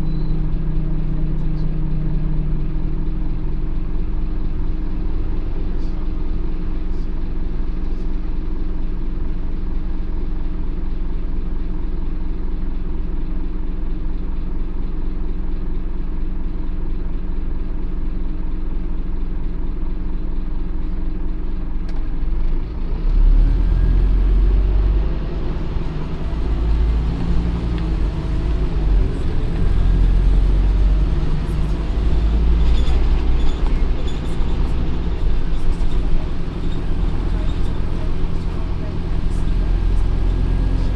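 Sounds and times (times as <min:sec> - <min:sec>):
bus diesel engine: 0:00.0 - 0:40.9.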